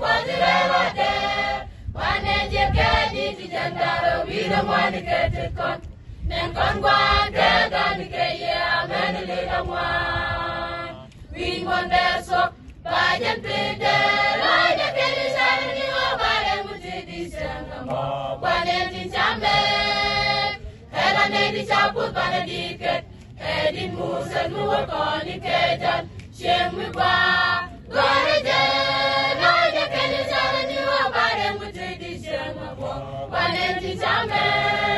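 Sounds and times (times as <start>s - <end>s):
mixed choir singing: 0.0s - 34.9s.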